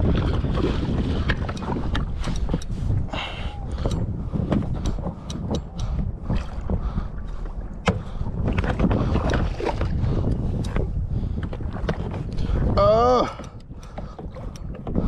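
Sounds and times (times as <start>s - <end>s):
water against hull: 0.0s - 15.0s
wind buffeting microphone: 0.0s - 15.0s.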